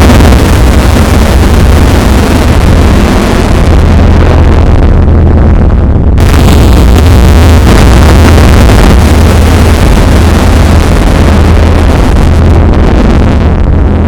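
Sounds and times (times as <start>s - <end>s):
distorted explosion: 0.0s - 14.0s.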